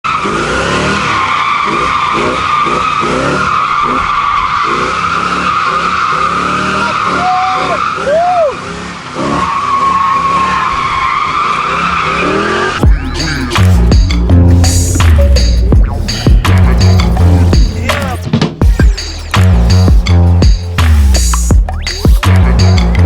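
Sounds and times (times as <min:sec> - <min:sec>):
tires squealing: 0:00.0 - 0:20.2
engine revving: 0:00.0 - 0:23.0.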